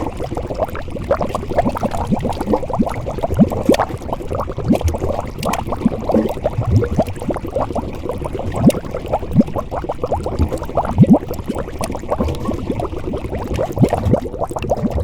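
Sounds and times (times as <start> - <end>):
liquid boiling and bubbling: 0.0 - 15.0.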